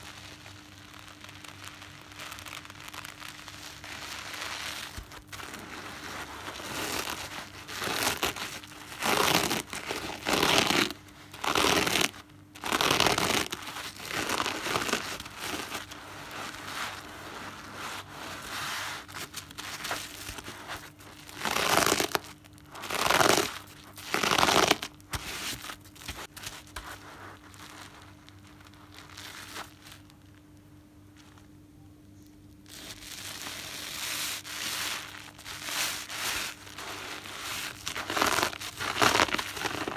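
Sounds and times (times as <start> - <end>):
sponge squelching: 2.4 - 29.8, 32.9 - 39.9.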